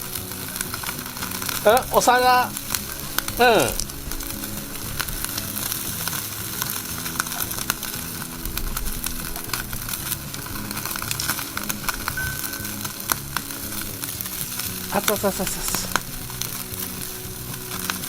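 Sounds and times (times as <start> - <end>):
fat popping and crackling: 0.0 - 18.0
skewers sizzling over charcoal: 0.0 - 18.0.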